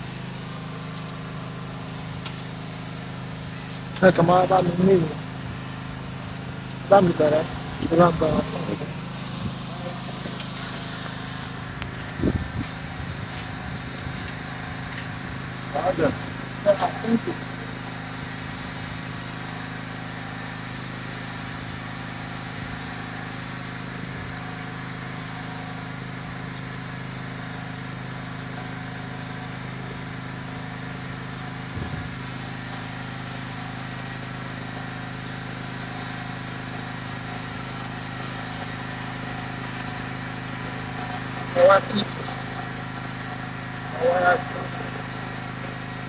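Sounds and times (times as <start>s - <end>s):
machine humming: 0.0s - 46.0s.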